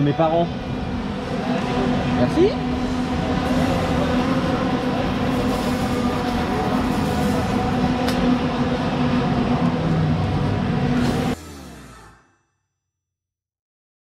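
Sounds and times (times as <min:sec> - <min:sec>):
kart engines droning: 0:00.0 - 0:12.6.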